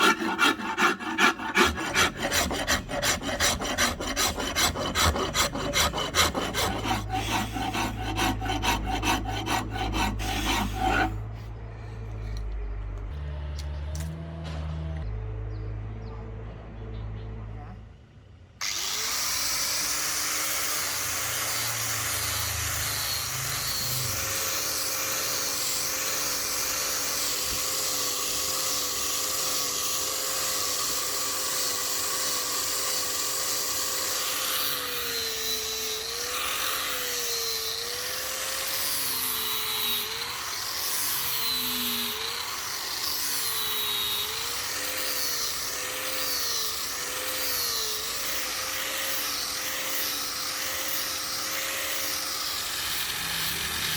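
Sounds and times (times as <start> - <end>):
power tool whining on wood: 0.0 - 11.4, 18.6 - 53.9.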